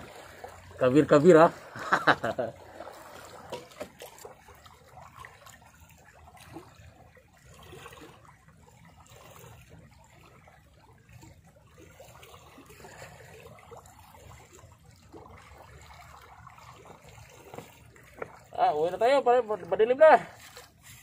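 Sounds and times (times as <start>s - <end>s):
small waves lapping over rocks: 0.0s - 21.0s.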